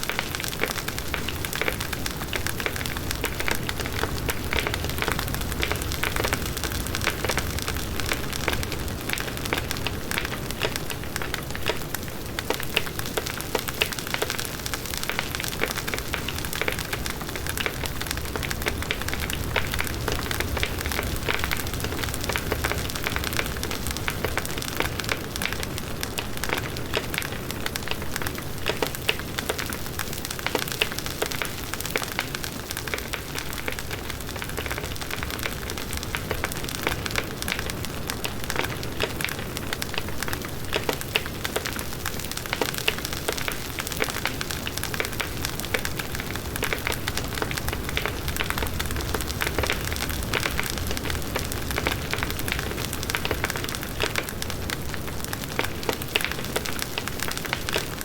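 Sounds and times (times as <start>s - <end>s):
wood crackling and popping: 0.0s - 58.0s.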